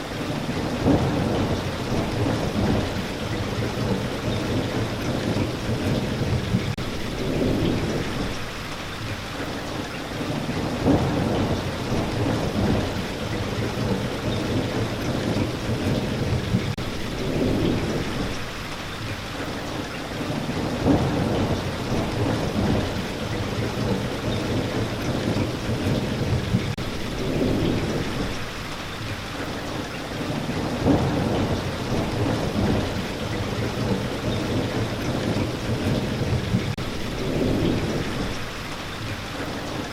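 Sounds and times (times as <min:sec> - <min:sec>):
heavy rain hissing: 0:00.0 - 0:39.9
low rolls of thunder: 0:00.4 - 0:09.1, 0:10.2 - 0:18.8, 0:20.2 - 0:29.2, 0:30.2 - 0:39.6.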